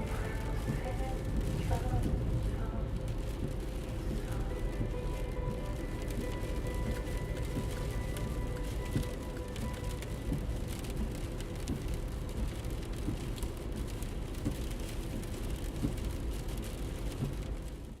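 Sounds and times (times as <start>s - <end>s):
engine and road rumble: 0.0s - 18.0s
raindrops tapping on car: 0.0s - 18.0s.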